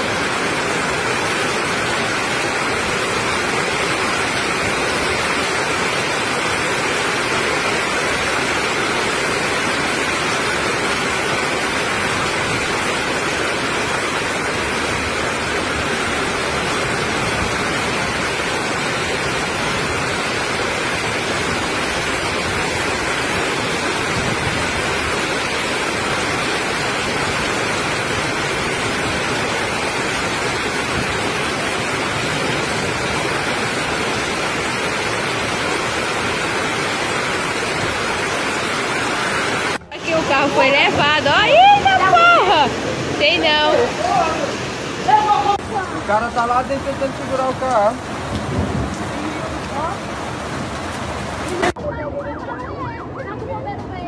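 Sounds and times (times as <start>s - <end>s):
floodwater rushing: 0.0s - 51.8s
torrential rain: 0.0s - 52.1s.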